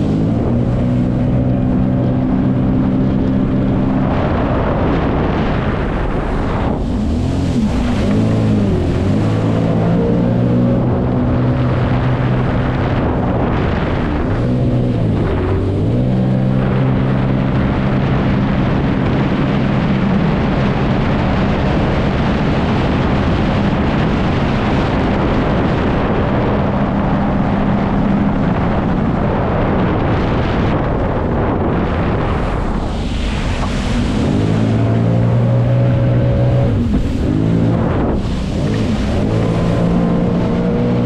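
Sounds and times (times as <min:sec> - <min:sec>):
jet ski engine running: 0:00.0 - 0:41.0
loud steady rushing noise: 0:00.0 - 0:41.0.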